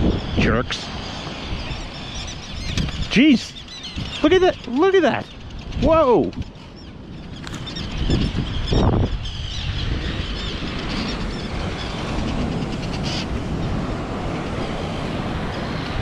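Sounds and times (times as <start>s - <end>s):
wind rumble on microphone: 0.0s - 16.0s
seabirds alarm calls: 0.1s - 16.0s.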